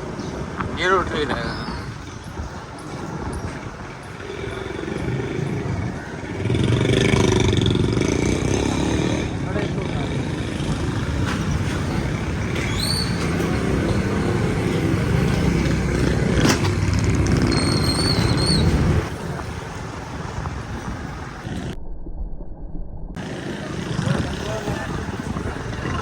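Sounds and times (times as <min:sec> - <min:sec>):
road traffic rumble: 0:00.0 - 0:21.8, 0:23.1 - 0:26.0.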